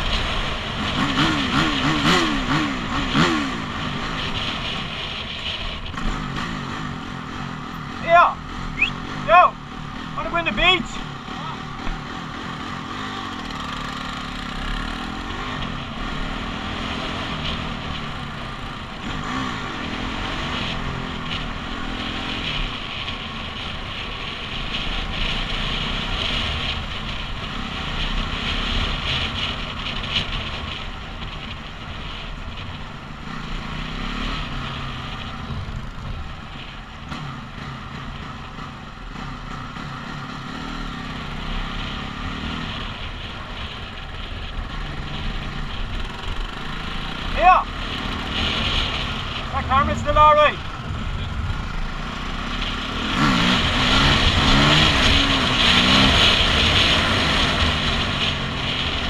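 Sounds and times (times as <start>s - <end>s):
dirt bike engine revving: 0.0s - 30.8s, 32.6s - 59.0s
steady rushing noise: 0.0s - 59.0s.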